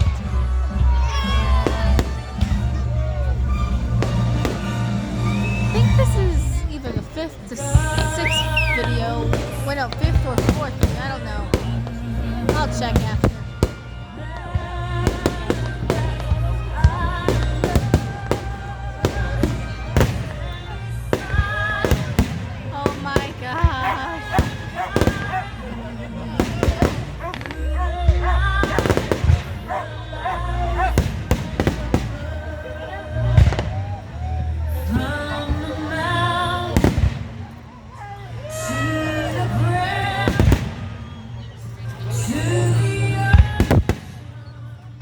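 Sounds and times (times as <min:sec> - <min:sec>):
music with singing: 0:00.0 - 0:45.0
fireworks bangs: 0:00.8 - 0:34.3, 0:34.9 - 0:37.8, 0:39.6 - 0:41.5, 0:43.2 - 0:44.2.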